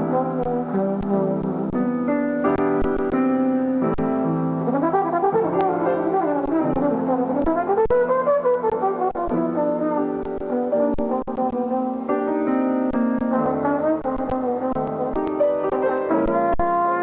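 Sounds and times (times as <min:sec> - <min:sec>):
jazz trombone: 0:00.0 - 0:02.8, 0:04.6 - 0:17.0
piano chords: 0:00.0 - 0:17.0.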